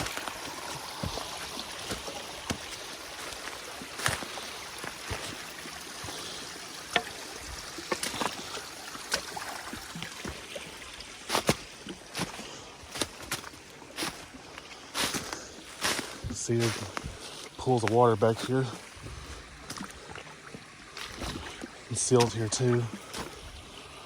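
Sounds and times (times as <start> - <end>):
footsteps on stones and leaves: 0.0 - 20.2, 20.8 - 24.0
stream flowing over rock: 0.0 - 24.0.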